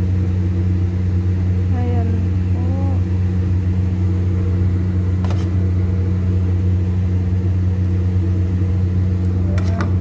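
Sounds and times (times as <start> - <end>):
electric motor hum: 0.0 - 10.0.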